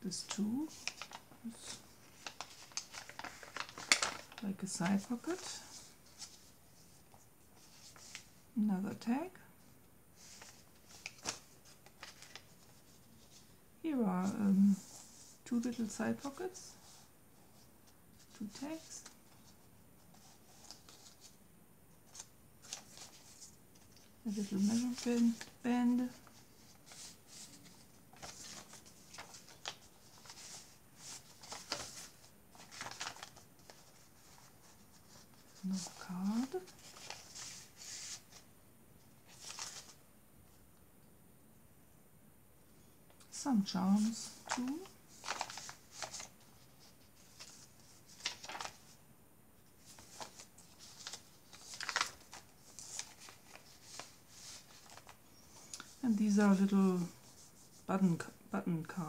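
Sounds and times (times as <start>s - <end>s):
paper pages rustling: 0.2s - 8.4s, 10.2s - 13.6s, 14.2s - 21.4s, 22.0s - 38.5s, 39.2s - 40.0s, 44.0s - 49.0s, 49.6s - 57.9s.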